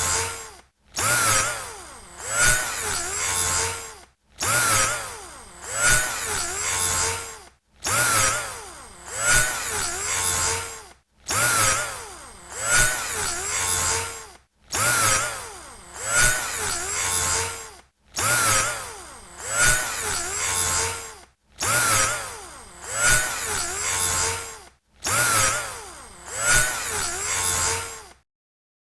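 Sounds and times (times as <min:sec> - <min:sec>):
electric drill motor whining: 0:00.0 - 0:28.2.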